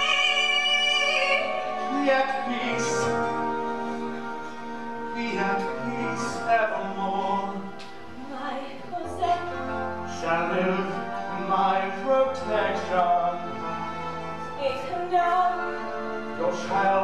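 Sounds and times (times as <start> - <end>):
slow instrumental accompaniment: 0.0 - 17.0.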